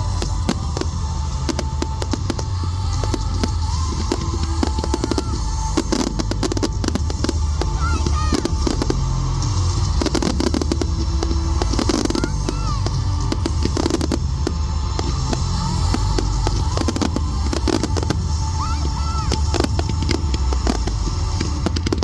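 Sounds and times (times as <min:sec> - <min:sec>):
fireworks bangs and crackles: 0:00.0 - 0:22.0
fireworks whistling: 0:00.0 - 0:22.0.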